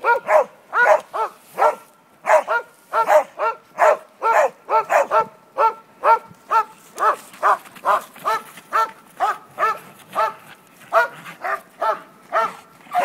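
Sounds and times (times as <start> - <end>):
dog barking: 0.0 - 13.0.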